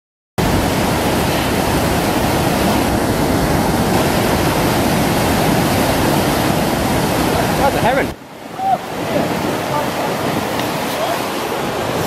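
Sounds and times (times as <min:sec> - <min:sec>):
fast-flowing water rushing: 0:00.4 - 0:12.0.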